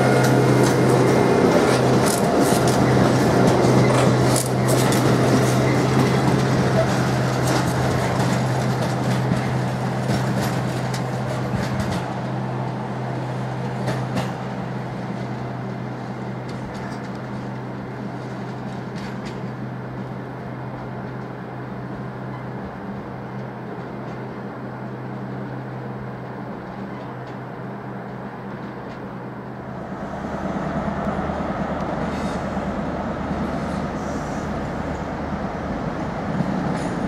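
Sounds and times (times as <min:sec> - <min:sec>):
train rolling with wheel clicks: 0:00.0 - 0:37.0.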